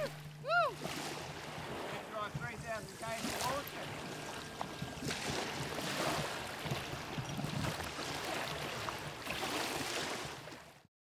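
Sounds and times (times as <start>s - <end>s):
water around boat: 0.0s - 10.9s
wind gusting over microphone: 0.4s - 10.5s.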